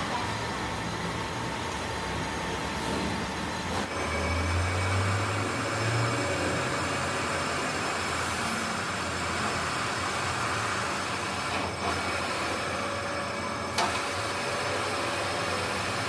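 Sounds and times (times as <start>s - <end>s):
workshop machine running: 0.0s - 16.0s.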